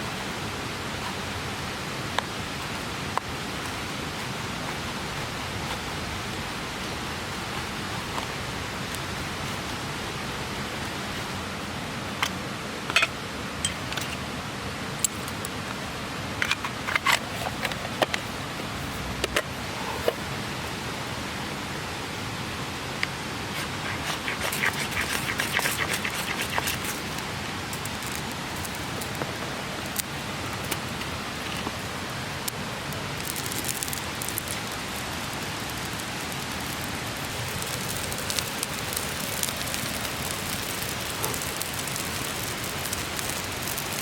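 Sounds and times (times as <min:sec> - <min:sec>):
rushing mountain stream: 0:00.0 - 0:44.0.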